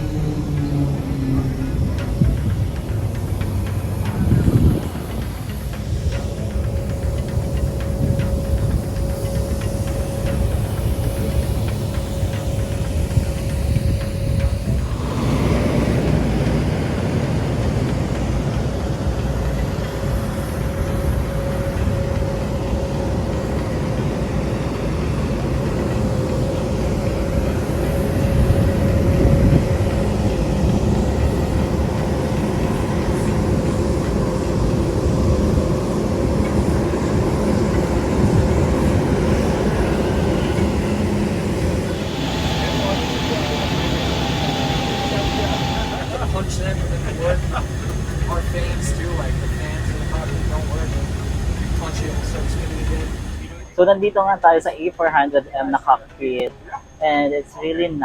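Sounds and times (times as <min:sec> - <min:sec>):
loud low rumble: 0:00.0 - 0:53.7
mid-pitched hum: 0:00.0 - 0:56.4.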